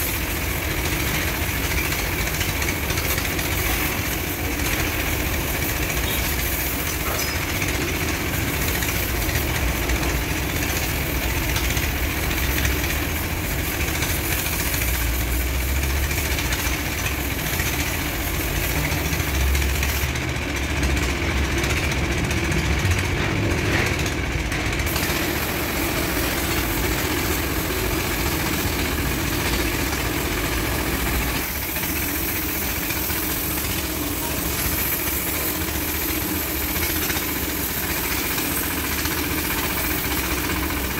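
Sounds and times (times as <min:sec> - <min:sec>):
machine running with low rumble: 0:00.0 - 0:40.9.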